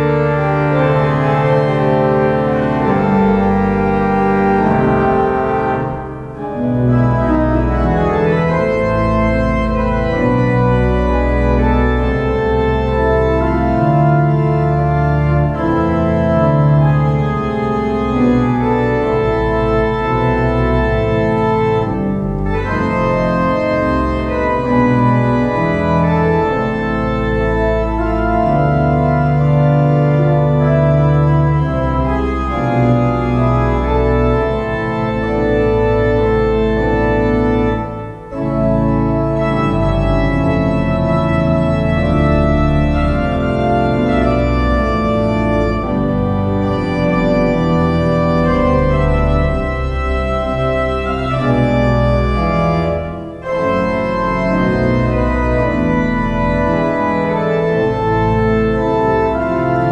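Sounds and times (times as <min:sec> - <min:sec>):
pipe organ playing chords: 0:00.0 - 0:59.9.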